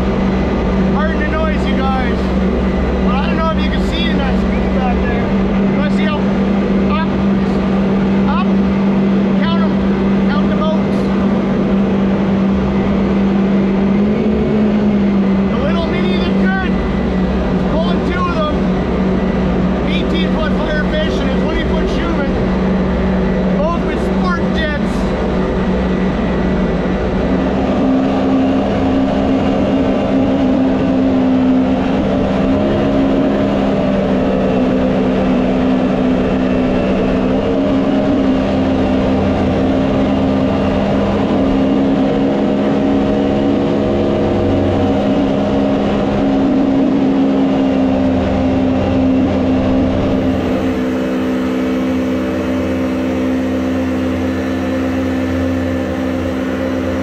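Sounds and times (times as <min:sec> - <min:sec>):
boat engine running hard: 0:00.0 - 0:57.0.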